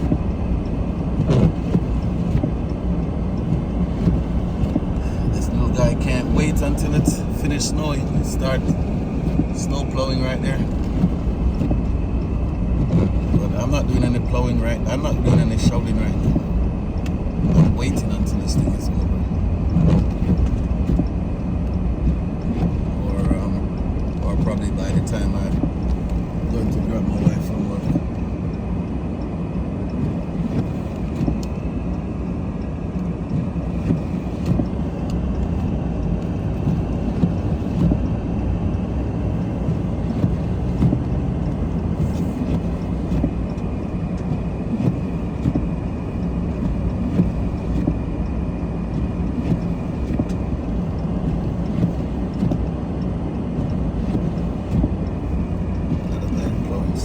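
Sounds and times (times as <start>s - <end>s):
car driving low rumble: 0.0s - 57.0s.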